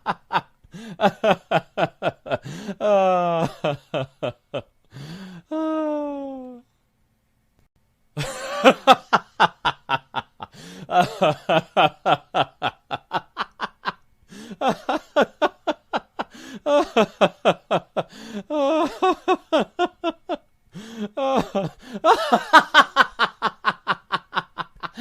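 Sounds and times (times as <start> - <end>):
person laughing ha-ha: 0.0 - 4.7, 8.2 - 20.4, 21.0 - 25.0.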